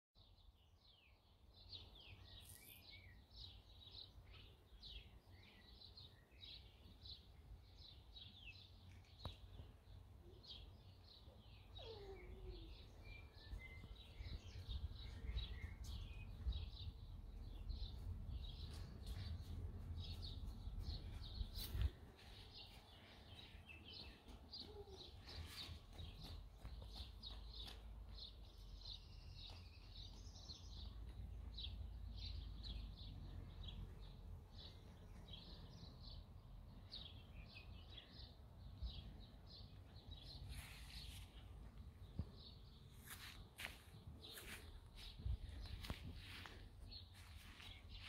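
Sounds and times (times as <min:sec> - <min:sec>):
small birds chirping: 0:00.2 - 0:48.0.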